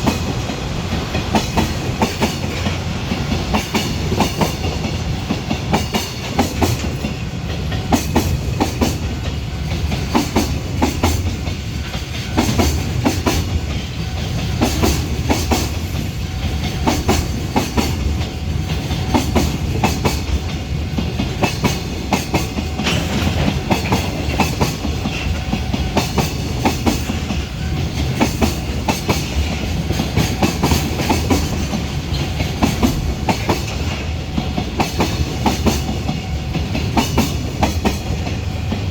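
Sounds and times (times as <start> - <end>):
continuous train rumble: 0.0 - 38.9
train wheels clattering over rail joints: 0.0 - 38.9.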